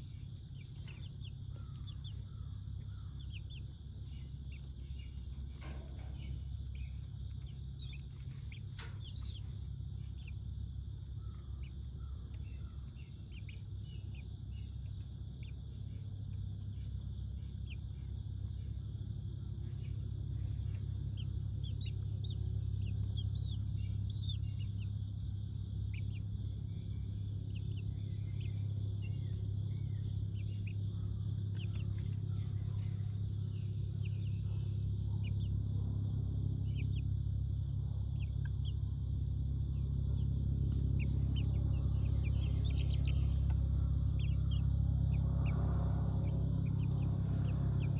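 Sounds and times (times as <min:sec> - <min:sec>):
chicks peeping: 0:00.0 - 0:35.5, 0:36.6 - 0:37.2, 0:38.1 - 0:44.7
steady high-pitched whine: 0:00.0 - 0:47.9
steady low rumble: 0:00.0 - 0:47.9.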